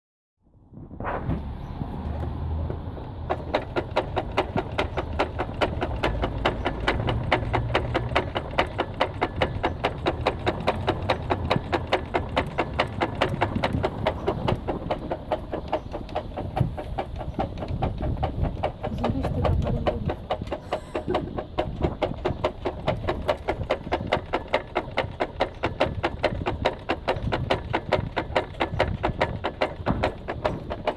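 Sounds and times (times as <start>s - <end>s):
low engine hum: 0.4s - 30.9s
car engine knocking: 1.8s - 30.9s.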